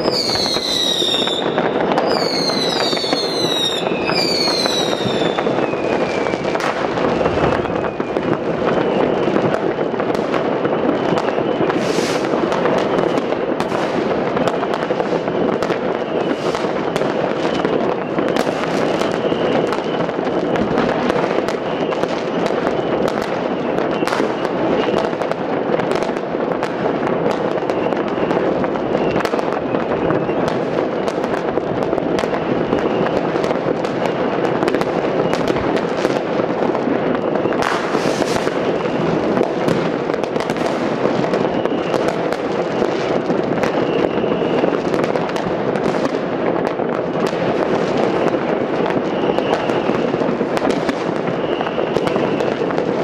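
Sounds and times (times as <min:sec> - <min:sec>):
fireworks crackling: 0:00.0 - 0:53.0.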